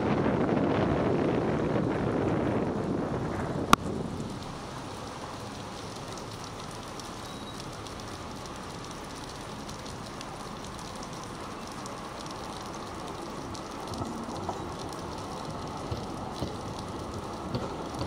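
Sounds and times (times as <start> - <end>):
rain on a car roof: 0.0 - 18.0.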